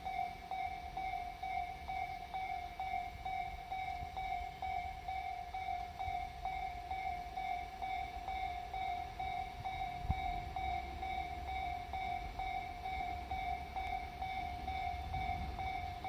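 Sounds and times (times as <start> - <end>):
level-crossing warning bell: 0.0 - 16.0.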